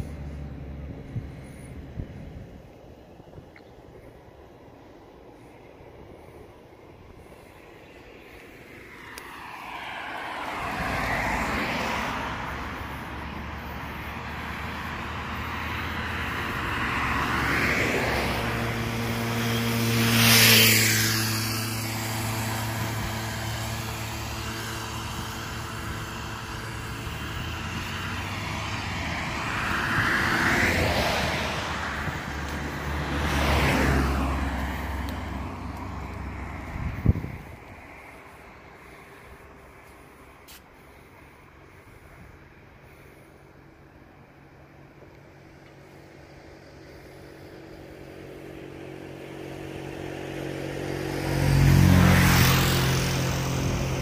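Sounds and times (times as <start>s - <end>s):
engine hum: 0.0s - 54.0s
vehicles passing on road: 0.0s - 54.0s.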